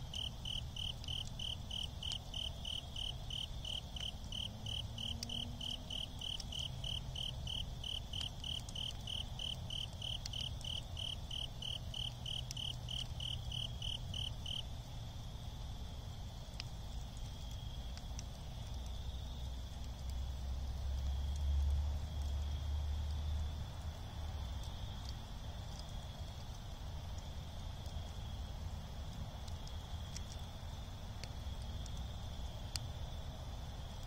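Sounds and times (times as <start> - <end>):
embers popping: 0.0 - 14.8, 16.1 - 22.6, 23.2 - 34.0
cricket chirping: 0.0 - 28.8.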